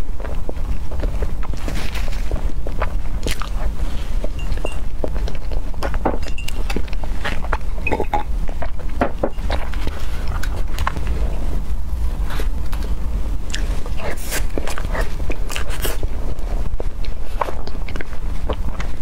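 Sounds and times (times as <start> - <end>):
soft chewing: 0.0 - 19.0
steady low rumble: 0.0 - 19.0.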